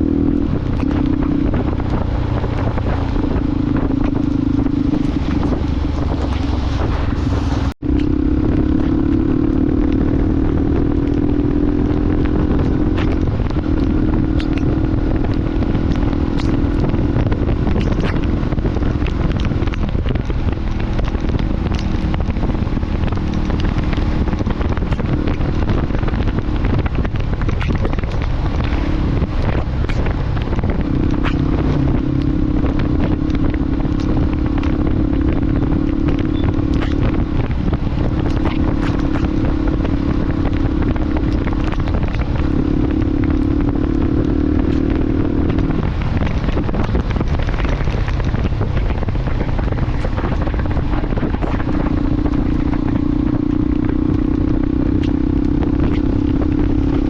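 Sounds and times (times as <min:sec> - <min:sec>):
crackles: 0:00.0 - 0:53.8
motorcycle engine running: 0:00.0 - 0:57.0
wind rush: 0:00.0 - 0:57.0.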